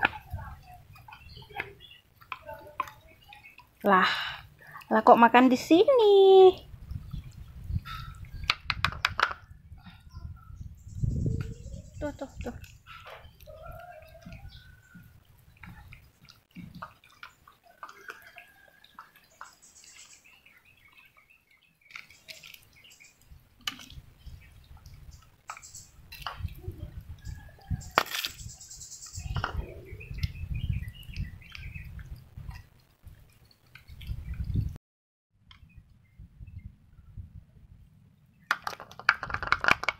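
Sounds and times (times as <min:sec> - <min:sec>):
birds chirping: 0:00.0 - 0:34.7.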